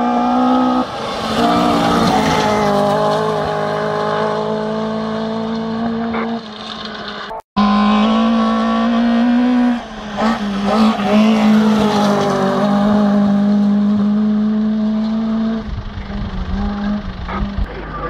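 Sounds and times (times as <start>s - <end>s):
rally car engine passing by: 0.0s - 18.0s.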